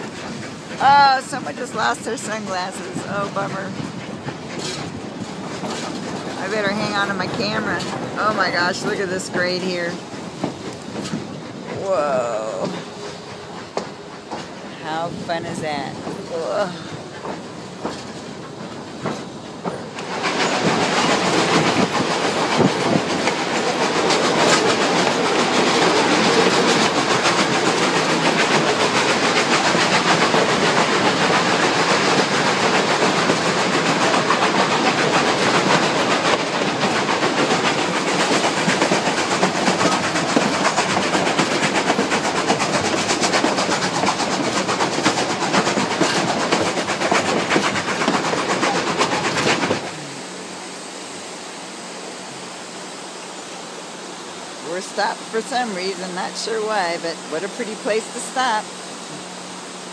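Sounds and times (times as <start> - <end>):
train wheels rolling on track: 0.0 - 59.9.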